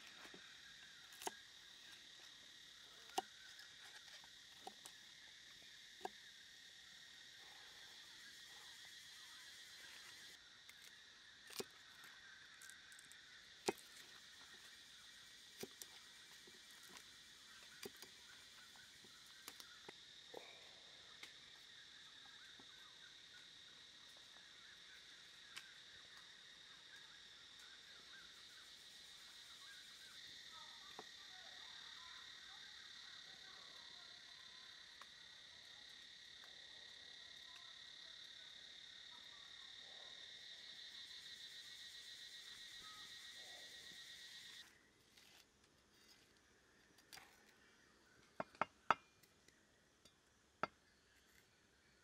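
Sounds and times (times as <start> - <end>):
insect chorus trilling: 0.0 - 52.0.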